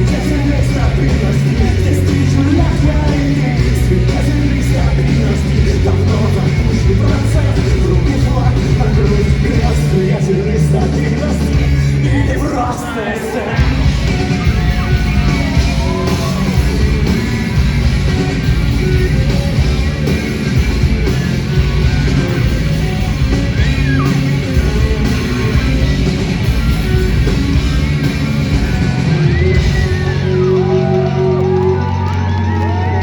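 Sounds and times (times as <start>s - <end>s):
person singing and yelling: 0.0s - 31.8s
bass guitar: 0.0s - 33.0s
drums: 0.0s - 33.0s
electric guitars: 0.0s - 33.0s.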